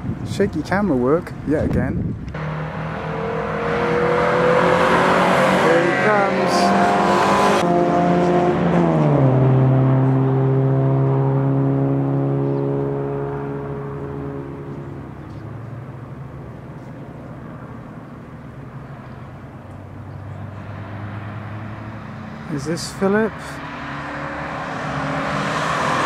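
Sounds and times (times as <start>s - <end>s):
car engine passing at speed: 2.3s - 26.0s.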